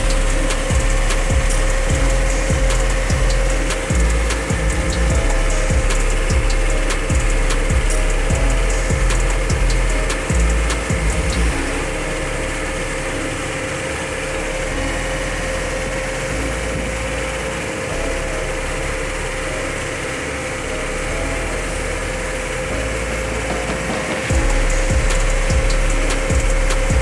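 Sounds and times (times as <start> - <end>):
truck engine heard from cab: 0.0 - 27.0.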